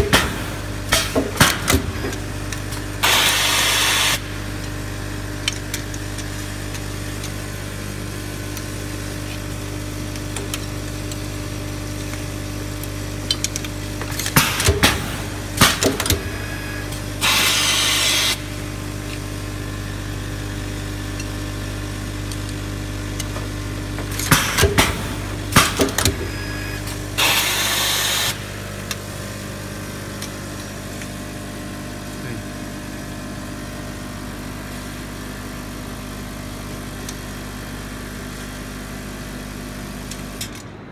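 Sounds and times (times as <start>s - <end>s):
riveting machine motor hum: 0.0s - 40.4s.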